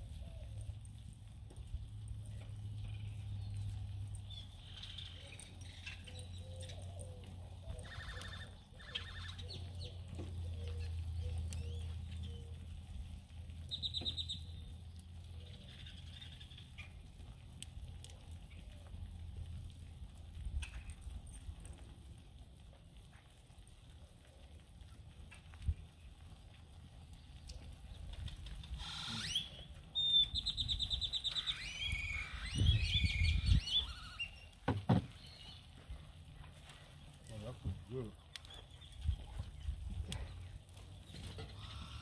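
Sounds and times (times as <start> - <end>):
birds chirping: 0.0 - 20.9, 23.6 - 42.0.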